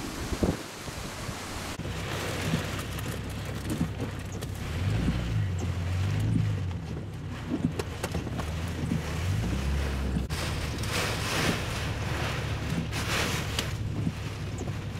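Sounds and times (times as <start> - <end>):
hurricane wind: 0.0 - 14.9
rain beating against vehicle: 1.3 - 14.9
low rumble: 1.8 - 14.9.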